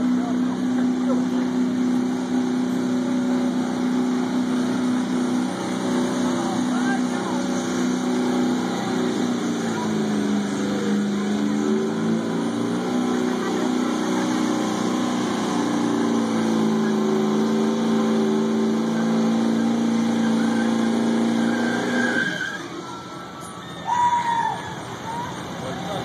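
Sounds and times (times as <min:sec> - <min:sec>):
diesel truck engine at high revs: 0:00.0 - 0:26.0.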